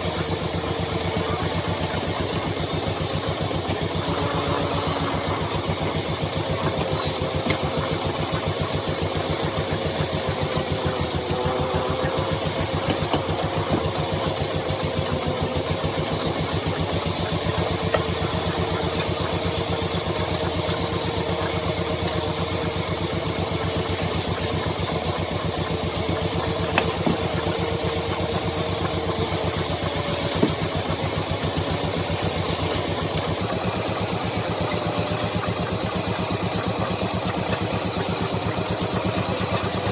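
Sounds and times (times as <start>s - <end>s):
woodworking lathe running: 0.0s - 39.9s.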